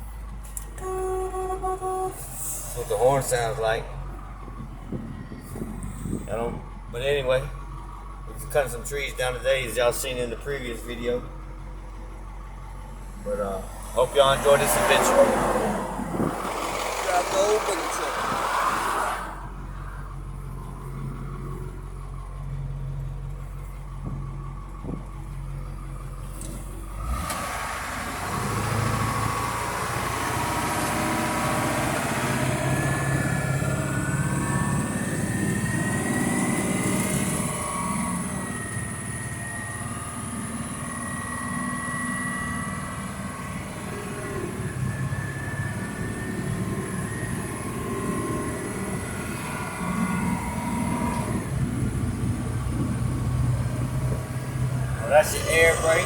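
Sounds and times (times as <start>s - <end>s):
drivetrain whine: 0.0s - 56.0s
road noise: 0.0s - 56.0s
truck engine running: 0.0s - 56.0s.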